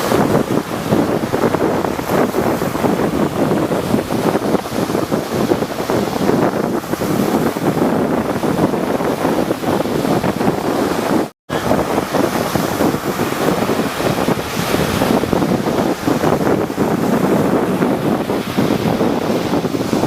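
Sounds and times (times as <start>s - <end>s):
sea waves breaking: 0.0s - 20.0s
wind buffeting microphone: 0.0s - 20.0s.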